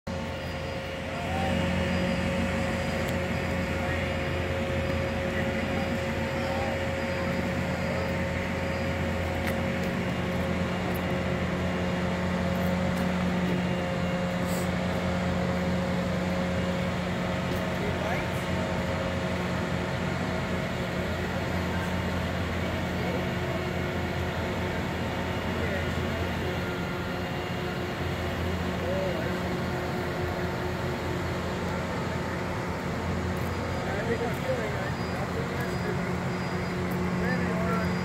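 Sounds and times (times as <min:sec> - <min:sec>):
heavy machinery drone: 0:00.0 - 0:38.0
faint steady whine: 0:00.1 - 0:38.0.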